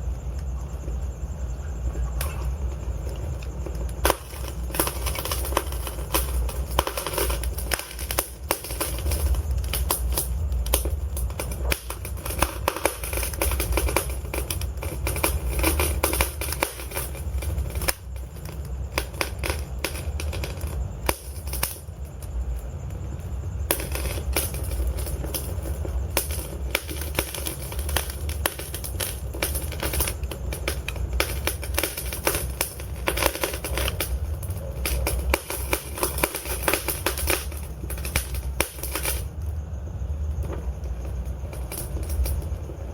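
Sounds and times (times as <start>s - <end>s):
low rumble of flames: 0.0s - 42.9s
logs crackling and popping: 2.2s - 42.9s.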